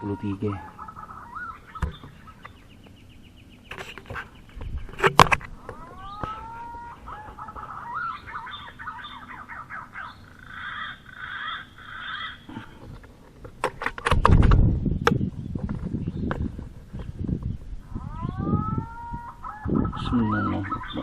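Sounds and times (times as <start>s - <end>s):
birds calling and chattering: 0.0s - 21.0s.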